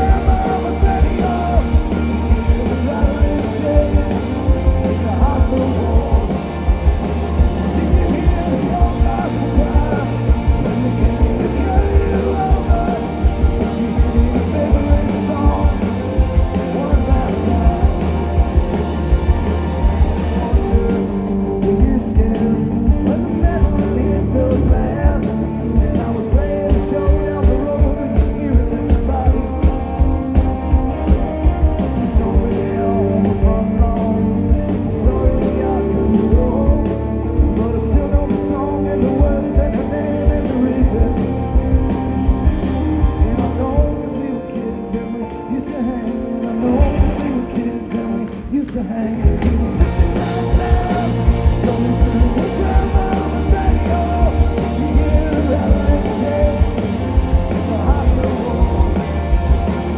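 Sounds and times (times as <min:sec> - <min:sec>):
man singing: 0:00.0 - 0:18.9, 0:20.3 - 0:30.0, 0:31.8 - 0:59.9
punk rock band playing live: 0:00.0 - 0:59.9.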